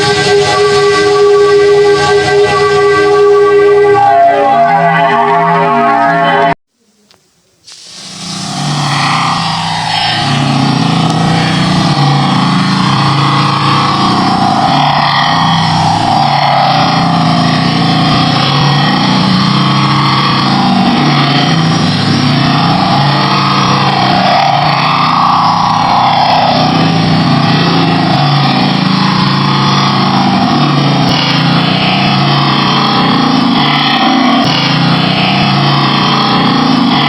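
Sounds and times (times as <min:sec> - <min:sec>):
synthesized rumbling hiss drone: 0:00.0 - 0:04.5, 0:06.8 - 0:37.0.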